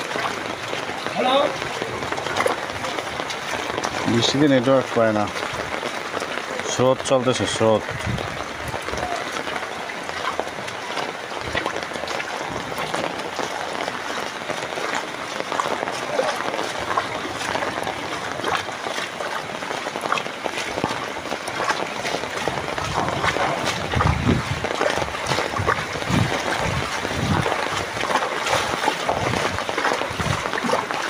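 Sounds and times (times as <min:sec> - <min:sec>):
heavy rain on water: 0:00.0 - 0:31.0.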